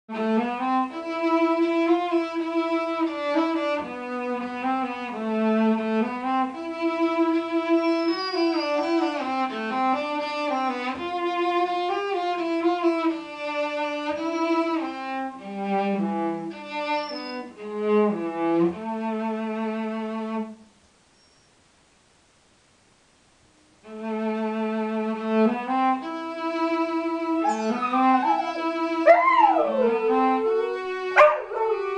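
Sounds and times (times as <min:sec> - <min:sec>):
cello slow melody: 0:00.1 - 0:20.7, 0:23.8 - 0:31.9.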